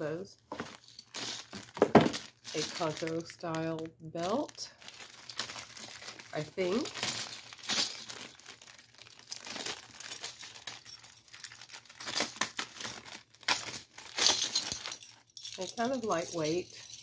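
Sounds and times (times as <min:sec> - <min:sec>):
packaging crinkling: 0:00.5 - 0:17.0.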